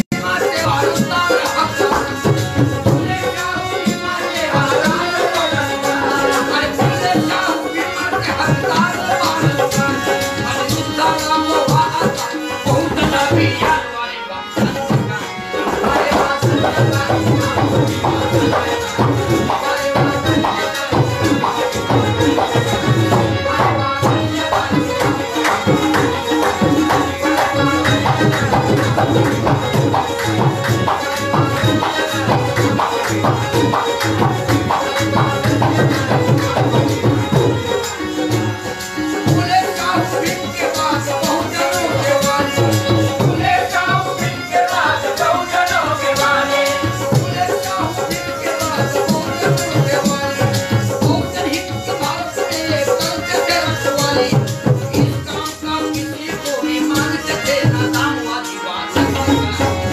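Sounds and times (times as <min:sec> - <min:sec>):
harmonium: 0:00.0 - 0:59.9
man singing: 0:00.0 - 0:59.9
tabla drum rhythm: 0:00.0 - 0:59.9.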